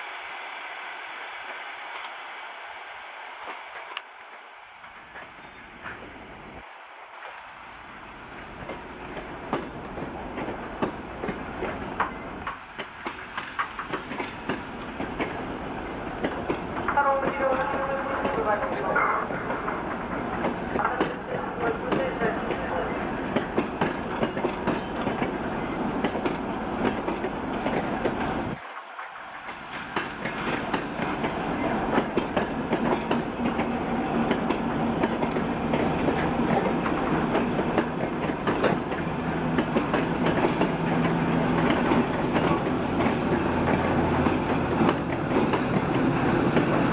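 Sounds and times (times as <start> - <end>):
train rolling rumble: 0.0 - 46.9
train wheels clicking over rail joints: 3.4 - 6.3, 7.1 - 46.9.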